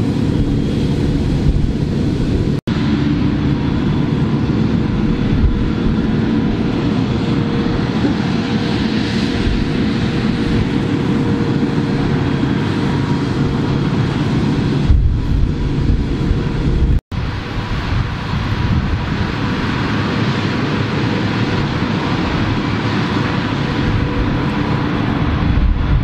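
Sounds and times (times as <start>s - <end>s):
mulcher whine: 0.0s - 26.0s.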